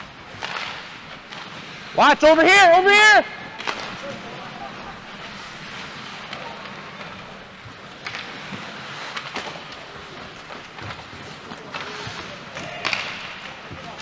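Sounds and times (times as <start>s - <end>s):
sharp hockey clacks: 0.0s - 2.0s, 3.2s - 14.0s
skating and arena noise: 0.0s - 14.0s.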